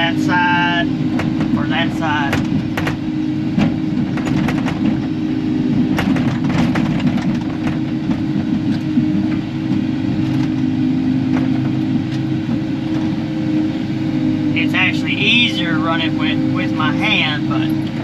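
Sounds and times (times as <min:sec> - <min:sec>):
excavator diesel engine and hydraulics: 0:00.0 - 0:18.0.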